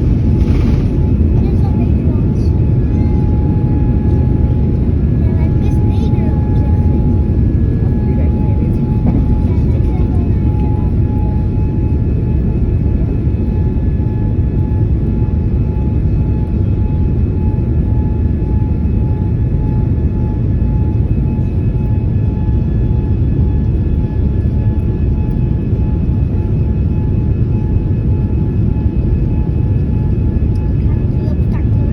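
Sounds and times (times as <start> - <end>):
low rumble of engines and airflow: 0.0 - 31.9.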